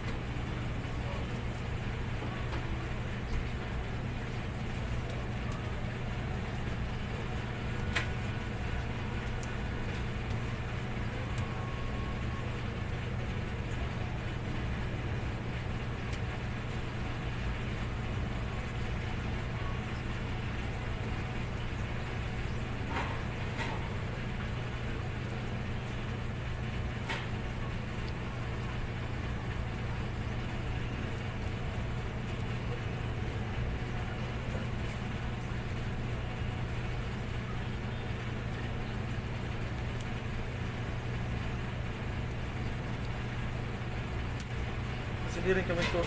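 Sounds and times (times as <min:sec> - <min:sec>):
low background hum: 0:00.0 - 0:46.0.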